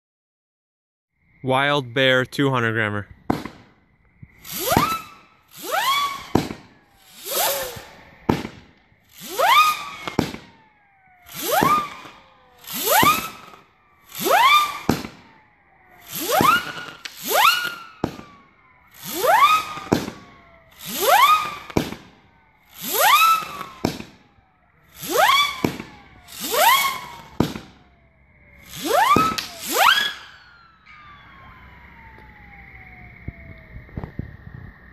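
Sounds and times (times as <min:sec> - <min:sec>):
firework whistles and cracks: 0:03.1 - 0:34.9.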